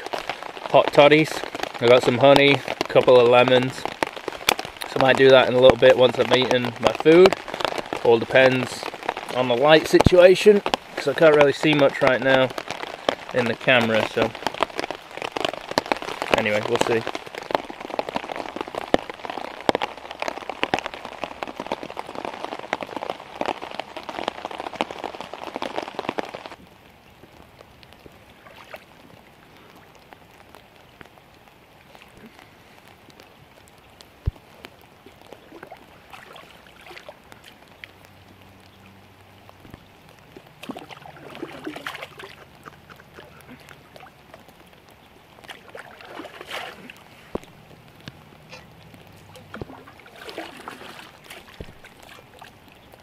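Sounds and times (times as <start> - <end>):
heavy rain pattering on tarp: 0.0 - 53.0.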